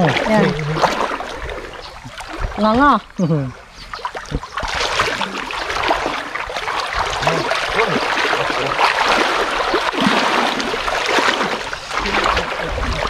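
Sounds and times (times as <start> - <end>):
splashing in water: 0.0 - 13.0.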